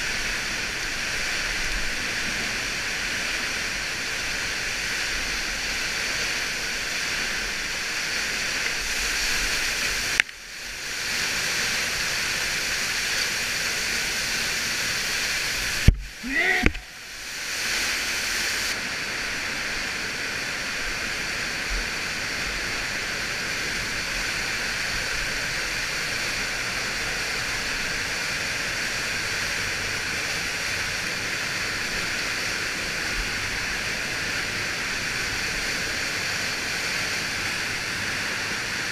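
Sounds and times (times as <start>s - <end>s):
underground waterfall rushing: 0.0s - 38.9s.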